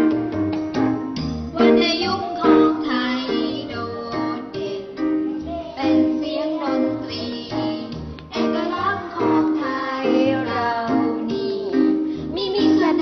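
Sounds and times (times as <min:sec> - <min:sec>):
child singing: 0:01.6 - 0:13.0.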